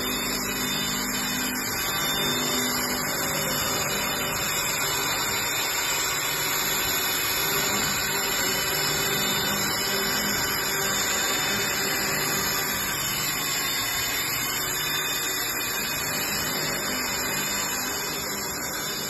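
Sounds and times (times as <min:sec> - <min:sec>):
milling machine cutting plastic: 0:00.0 - 0:19.0.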